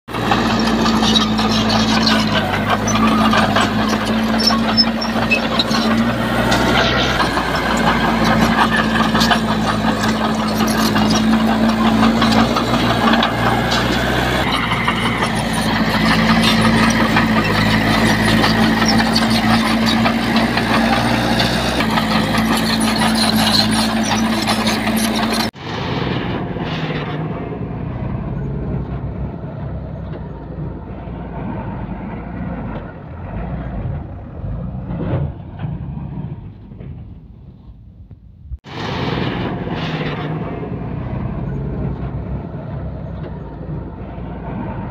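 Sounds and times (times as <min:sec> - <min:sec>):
heavy diesel engine running: 0:00.1 - 0:37.6, 0:38.6 - 0:44.9.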